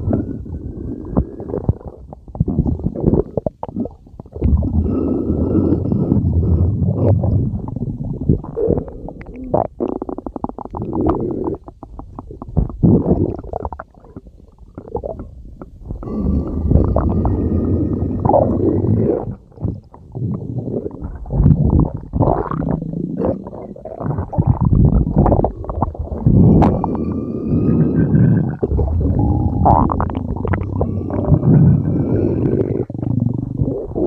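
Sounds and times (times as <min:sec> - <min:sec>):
stomach growling: 0:00.0 - 0:34.0.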